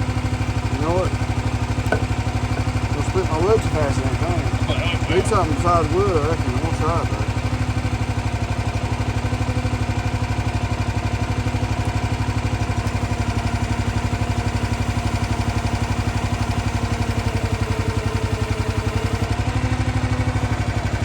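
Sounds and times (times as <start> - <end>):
log splitter engine running: 0.0 - 21.0.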